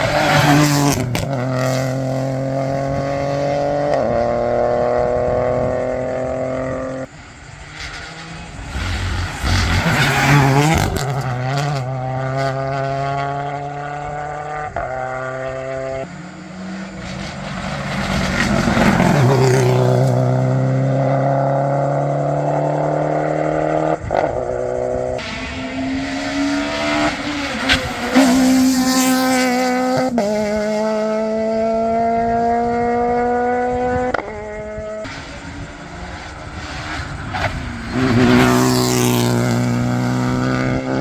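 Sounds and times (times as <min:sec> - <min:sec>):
rally car engine at full throttle: 0:00.0 - 0:41.0.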